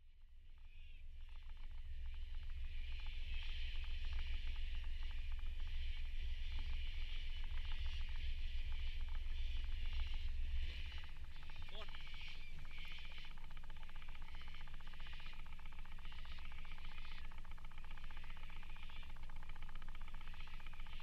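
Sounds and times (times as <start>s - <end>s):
outboard motor running: 2.3s - 21.0s.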